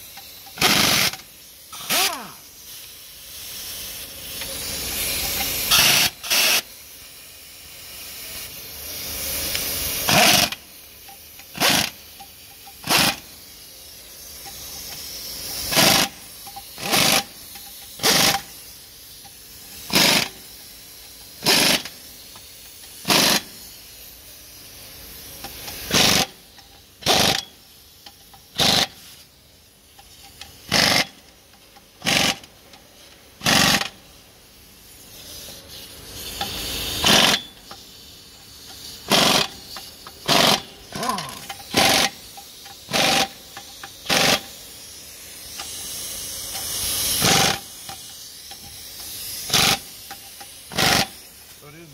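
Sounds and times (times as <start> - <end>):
air hissing: 0.0 - 51.9
pneumatic impact wrench bursts: 0.0 - 51.9.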